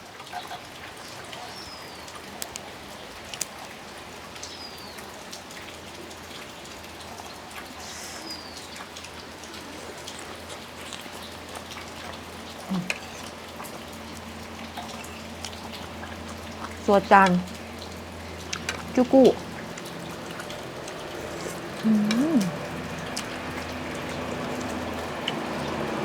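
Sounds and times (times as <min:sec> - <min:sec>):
steady rain falling: 0:00.0 - 0:26.0
raindrops tapping: 0:02.0 - 0:26.0.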